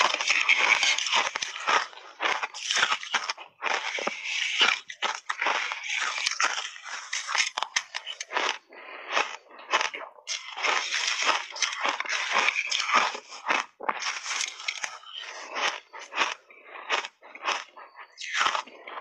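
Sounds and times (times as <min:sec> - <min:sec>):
crunching and chewing ice: 0:00.0 - 0:19.0.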